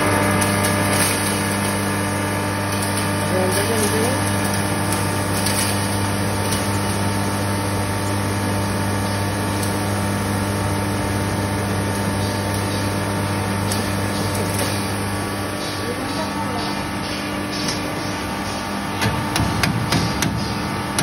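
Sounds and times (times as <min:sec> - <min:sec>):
grinder machine humming: 0:00.0 - 0:21.0.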